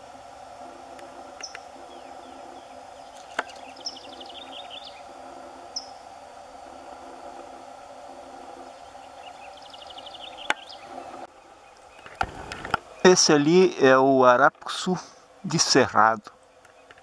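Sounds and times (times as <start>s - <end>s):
steady insect drone: 0.0s - 17.0s
small birds chirping: 1.0s - 17.0s.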